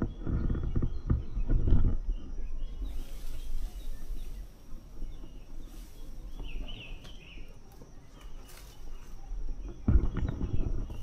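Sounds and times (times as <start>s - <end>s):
low rumble on microphone: 0.0s - 7.5s, 9.3s - 11.0s
bird chirps: 0.0s - 11.0s.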